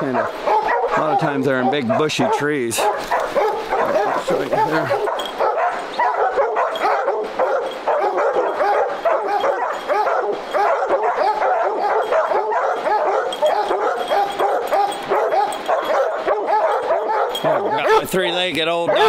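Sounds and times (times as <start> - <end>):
hounds baying: 0.0 - 19.0.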